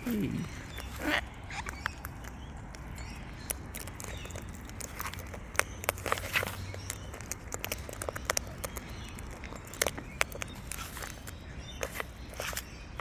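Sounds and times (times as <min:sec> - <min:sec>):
birds pecking clicks and taps: 0:00.4 - 0:13.0.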